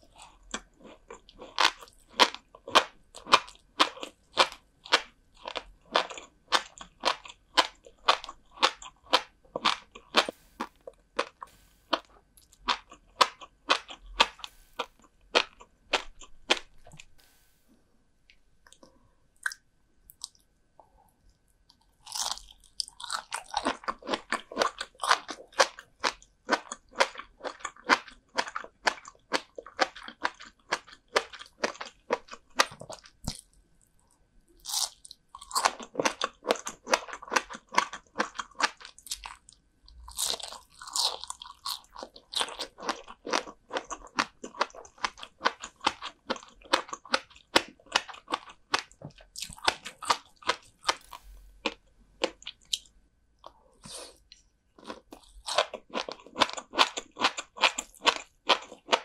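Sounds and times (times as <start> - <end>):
crunchy food bitten and chewed: 0.0 - 17.3, 18.3 - 59.0.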